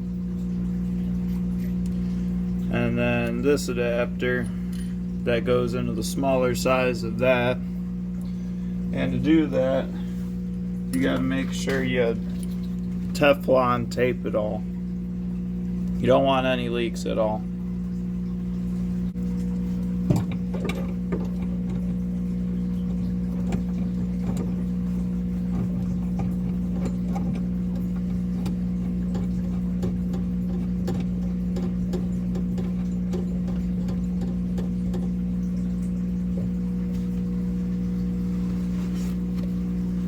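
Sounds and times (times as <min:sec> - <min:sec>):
equipment humming: 0:00.0 - 0:40.0.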